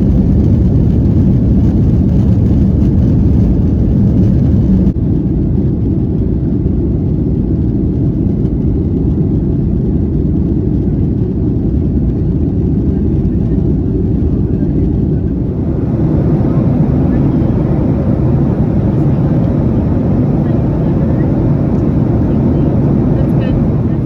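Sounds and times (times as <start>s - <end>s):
jet engine cabin rumble: 0.0s - 24.0s.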